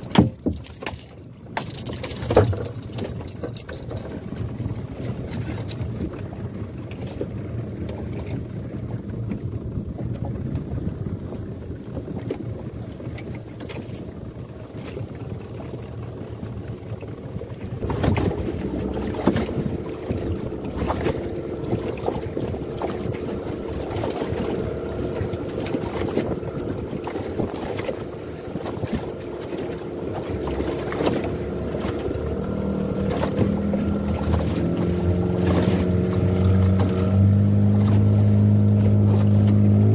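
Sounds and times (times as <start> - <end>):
choppy water: 0.0 - 39.9
outboard motor running: 0.0 - 39.9
wind buffeting microphone: 2.3 - 39.9.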